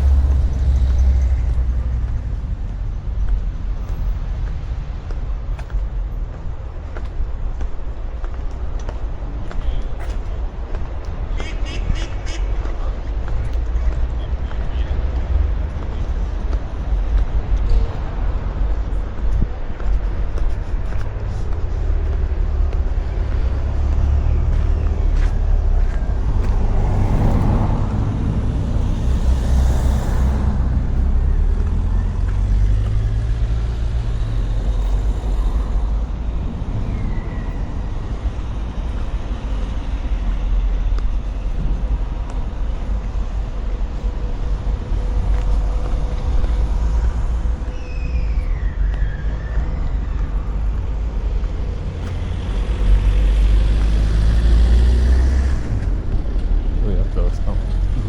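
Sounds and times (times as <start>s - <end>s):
street traffic rumbling: 0.0s - 58.0s.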